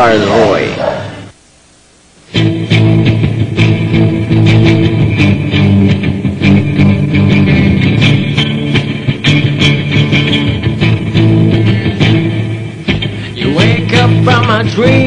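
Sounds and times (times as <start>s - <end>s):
electric guitar: 2.2s - 15.0s
bass guitar: 2.3s - 15.0s.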